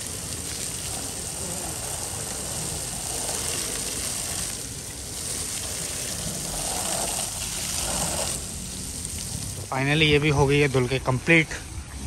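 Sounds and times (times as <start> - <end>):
water spraying onto vehicle: 0.0 - 12.0.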